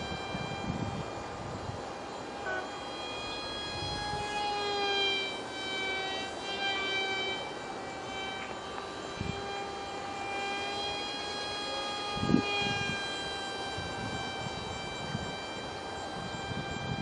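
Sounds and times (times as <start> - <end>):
model jet motor whine: 0.0 - 17.0.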